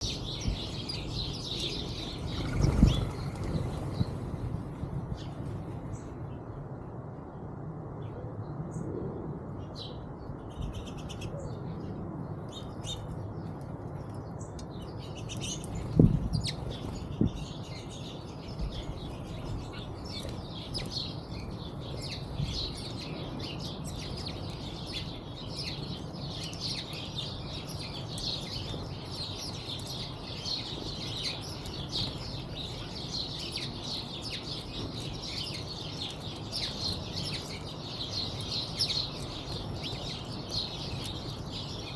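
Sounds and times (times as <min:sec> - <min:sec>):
small birds chirping: 0:00.0 - 0:08.9, 0:09.6 - 0:41.9.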